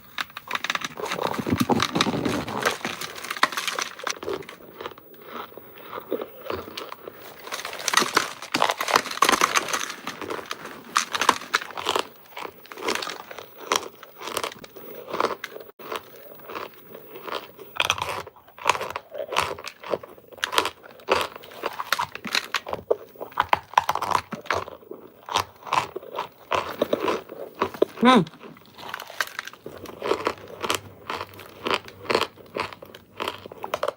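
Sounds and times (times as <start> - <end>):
cornstarch bricks crunching: 0.0 - 33.9.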